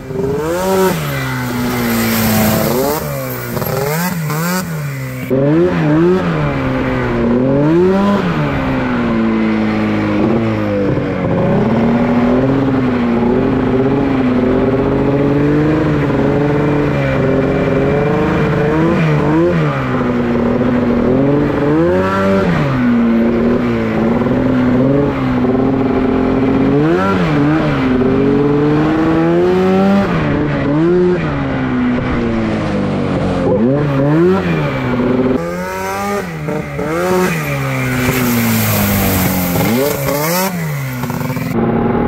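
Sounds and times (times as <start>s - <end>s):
buggy engine revving: 0.0s - 42.0s.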